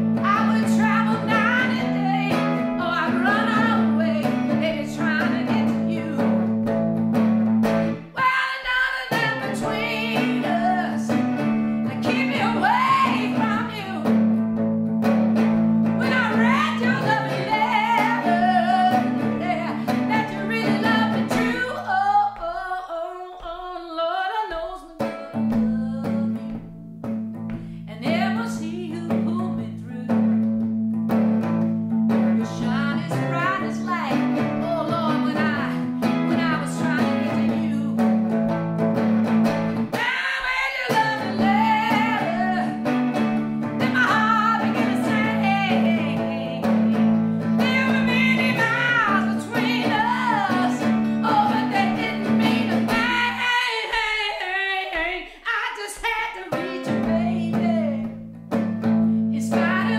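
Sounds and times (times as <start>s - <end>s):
electric guitar: 0.0s - 22.4s, 25.0s - 54.0s, 56.4s - 59.9s
woman singing blues: 0.0s - 59.9s.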